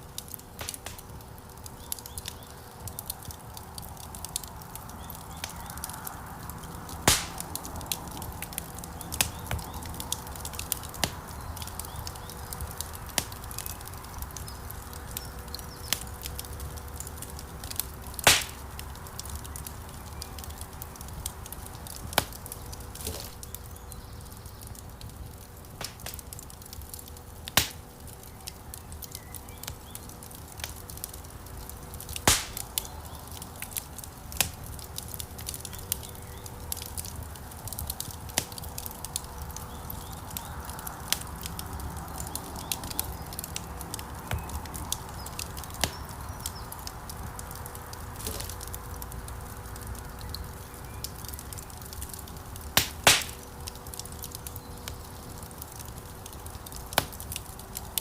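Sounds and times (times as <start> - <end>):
loud pops from burning logs: 0.0 - 58.0
wood fire crackling: 0.0 - 58.0.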